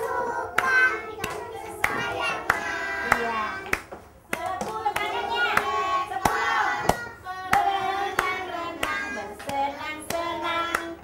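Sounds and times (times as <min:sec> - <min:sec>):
steady clapping: 0:00.0 - 0:11.0.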